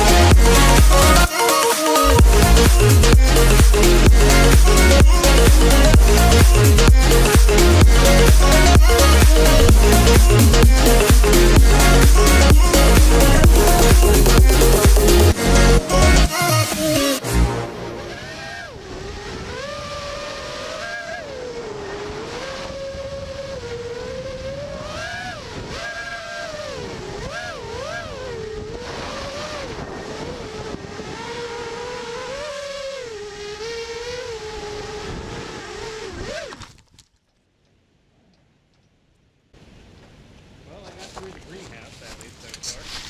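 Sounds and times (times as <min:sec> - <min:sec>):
quadcopter motors whining: 0:00.0 - 0:17.3, 0:18.1 - 0:36.8.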